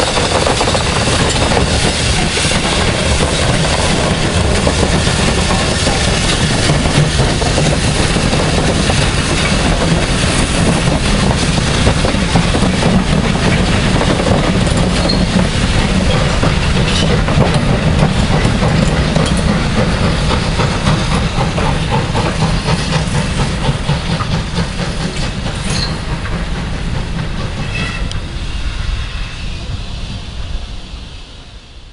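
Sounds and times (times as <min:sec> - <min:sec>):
train wheels clattering: 0:00.0 - 0:28.7.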